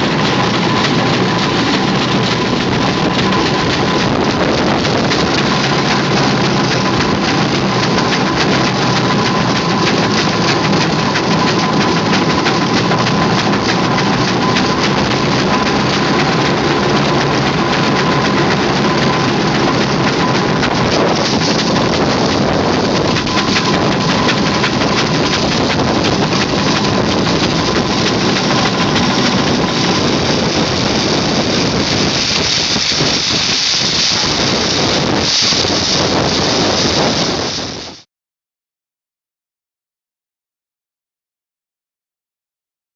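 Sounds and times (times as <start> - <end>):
steam engine hissing: 0.0 - 38.0
thin whine: 0.0 - 38.0.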